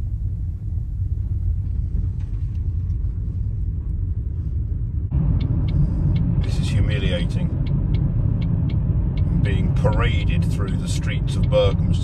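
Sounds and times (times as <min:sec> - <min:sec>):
low rumble inside car cabin: 0:00.0 - 0:12.0
road noise: 0:00.0 - 0:12.0.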